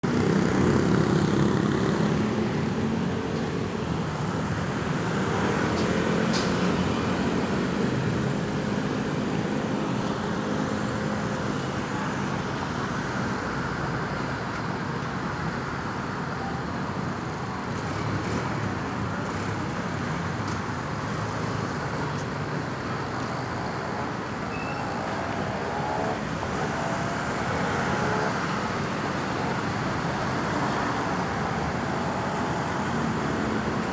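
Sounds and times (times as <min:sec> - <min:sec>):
road traffic passing: 0:00.0 - 0:33.9.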